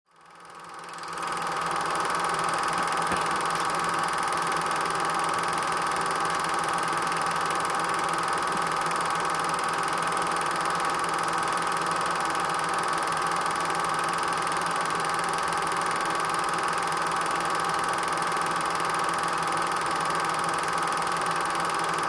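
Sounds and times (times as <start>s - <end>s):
film projector whirring: 0.2s - 22.0s.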